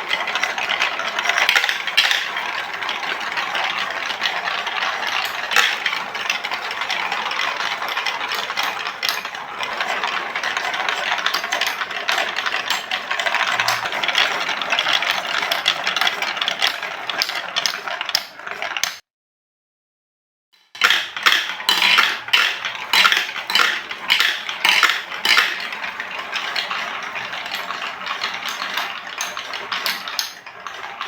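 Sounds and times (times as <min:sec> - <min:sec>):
marbles rattling down plastic run: 0:00.0 - 0:19.0, 0:20.8 - 0:31.0.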